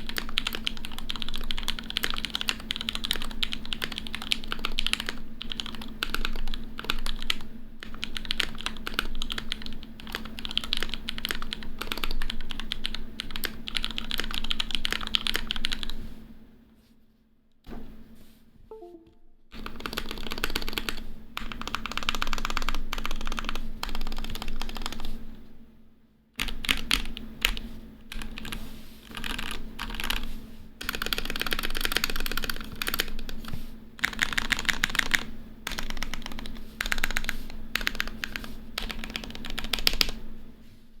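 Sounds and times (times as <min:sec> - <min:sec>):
mechanical keyboard typing: 0:00.0 - 0:16.0, 0:19.6 - 0:25.1, 0:26.4 - 0:40.2.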